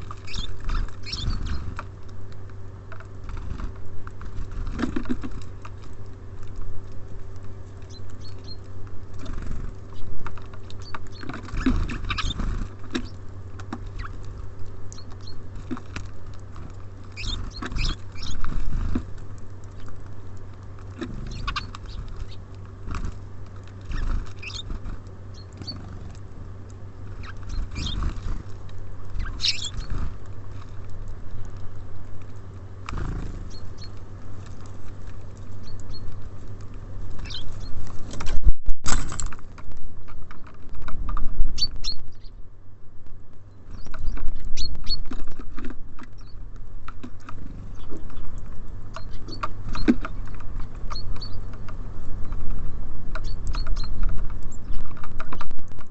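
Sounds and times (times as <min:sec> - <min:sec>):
birds pecking at seed: 0:00.0 - 0:55.9
low hum: 0:00.0 - 0:55.9.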